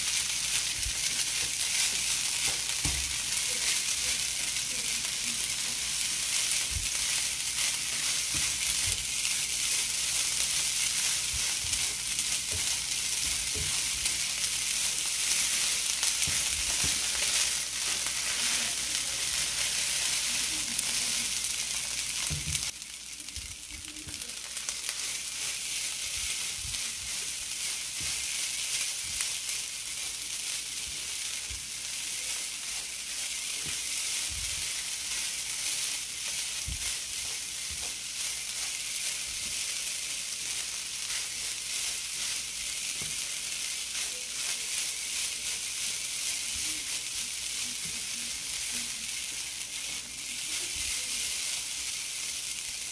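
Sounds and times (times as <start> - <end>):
spatula scraping a pan: 0.0 - 22.7, 24.1 - 52.9
rice sizzling in a pan: 0.0 - 52.9.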